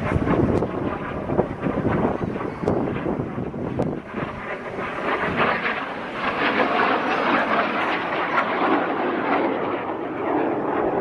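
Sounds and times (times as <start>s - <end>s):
small airplane engine drone: 0.0s - 11.0s.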